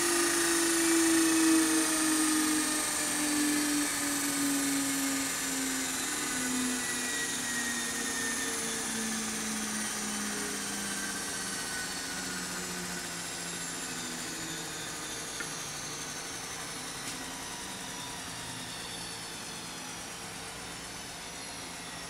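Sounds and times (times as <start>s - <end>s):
grinder machine hum and whine: 0.0s - 22.0s.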